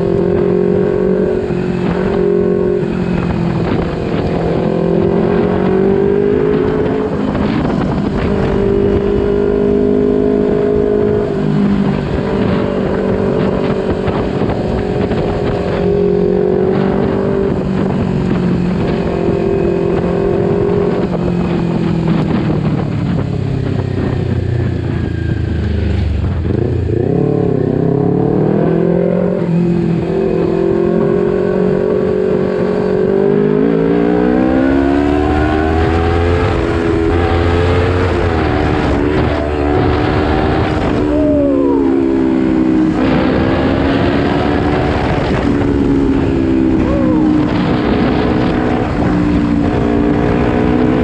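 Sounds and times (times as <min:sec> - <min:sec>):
motorcycle engine cruising: 0:00.0 - 0:51.0.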